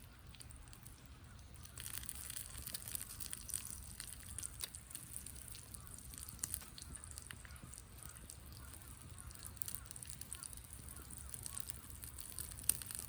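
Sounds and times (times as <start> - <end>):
wood fire popping: 0.0 - 13.0
meat sizzling on grill: 1.6 - 13.0.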